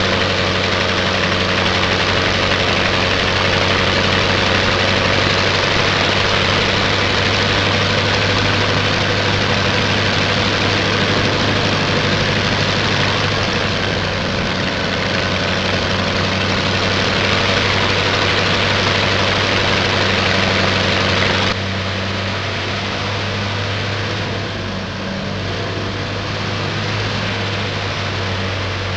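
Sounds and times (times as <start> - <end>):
propeller plane engine droning: 0.0 - 28.9.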